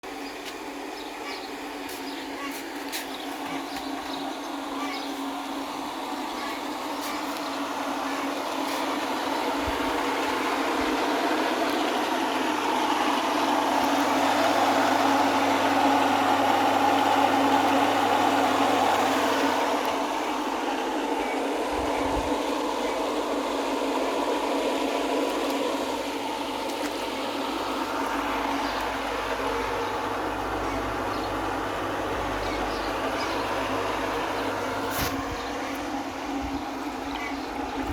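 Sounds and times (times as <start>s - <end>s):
pool vacuum pump humming: 0.0s - 37.9s.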